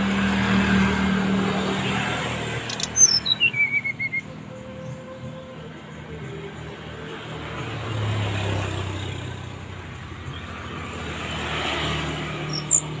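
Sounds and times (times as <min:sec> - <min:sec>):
vehicle passing on road: 0:00.0 - 0:03.2, 0:05.5 - 0:13.0.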